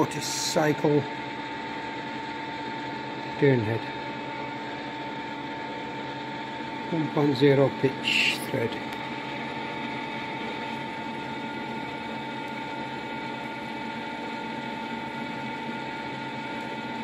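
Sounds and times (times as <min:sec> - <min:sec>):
lathe mechanical whir and whine: 0:00.0 - 0:17.0.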